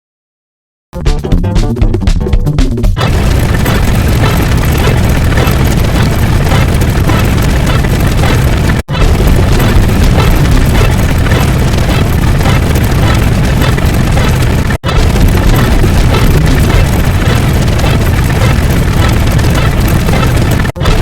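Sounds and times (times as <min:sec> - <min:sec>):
loud booming noise with heavy bass: 0:01.1 - 0:21.0.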